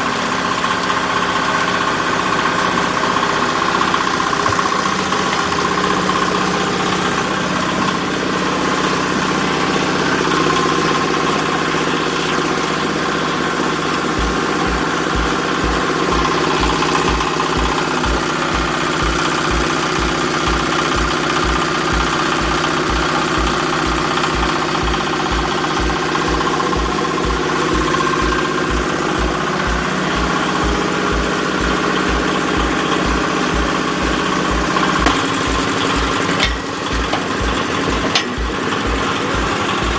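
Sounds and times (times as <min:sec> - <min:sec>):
diesel engine running: 0:00.0 - 0:39.9
low regular pulse: 0:00.0 - 0:39.9.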